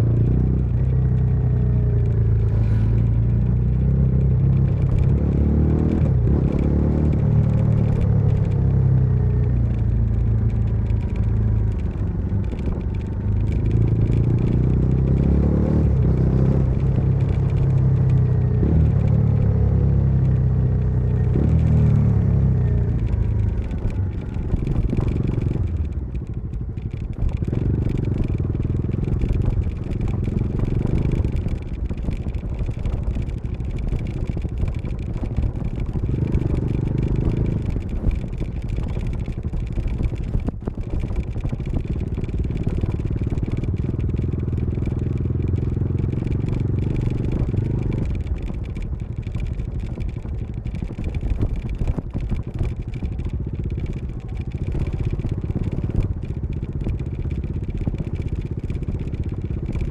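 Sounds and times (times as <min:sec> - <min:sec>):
motorcycle engine and exhaust: 0:00.0 - 0:59.9.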